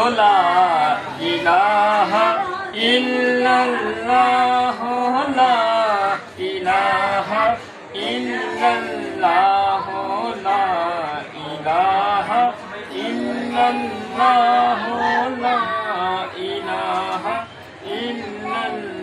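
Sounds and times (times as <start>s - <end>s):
group singing without instruments: 0.0s - 19.0s.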